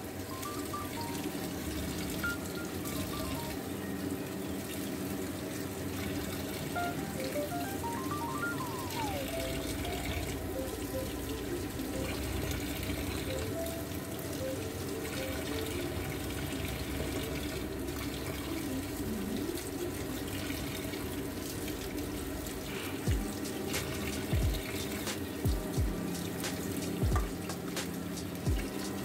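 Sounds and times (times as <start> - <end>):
background music with deep bass: 0.0 - 4.4, 6.7 - 20.4, 21.1 - 29.0.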